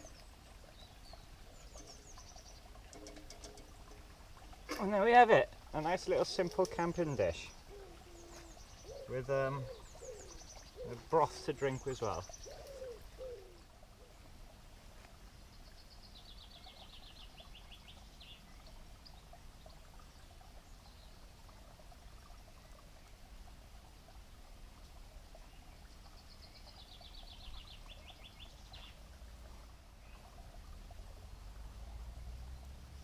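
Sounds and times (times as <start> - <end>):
songbird singing: 0.0 - 21.3, 25.3 - 29.2, 29.9 - 33.0
faint steady background noise: 0.0 - 33.0.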